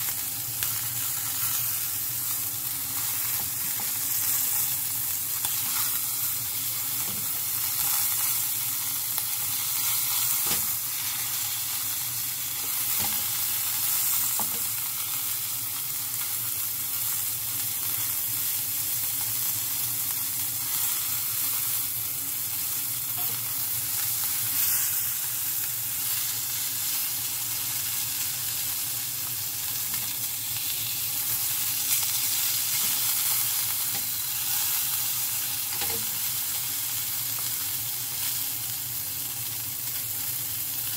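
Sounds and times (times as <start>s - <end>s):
meat sizzling in a frying pan: 0.0s - 40.9s.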